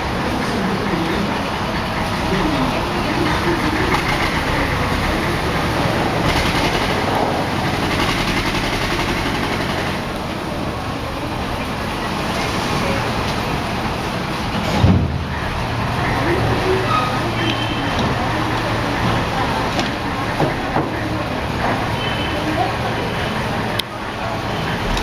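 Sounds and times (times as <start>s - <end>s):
machinery rumbling and clattering: 0.0s - 25.0s.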